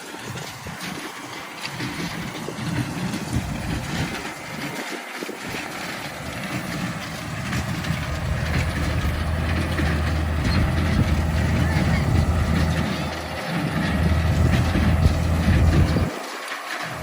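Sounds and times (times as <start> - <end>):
hay baler working: 0.0 - 17.0
tractor engine running: 0.0 - 17.0.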